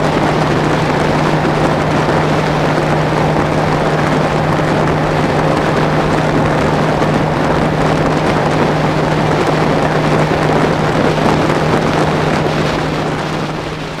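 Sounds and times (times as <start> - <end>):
outboard motor running: 0.0 - 14.0
wind and water rushing: 0.0 - 14.0.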